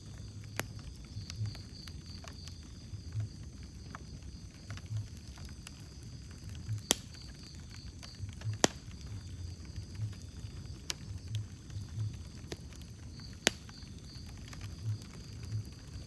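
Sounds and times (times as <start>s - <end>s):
low steady rumble: 0.0s - 16.0s
sharp pops of fire: 0.0s - 16.0s
wood fire crackling: 0.0s - 16.0s.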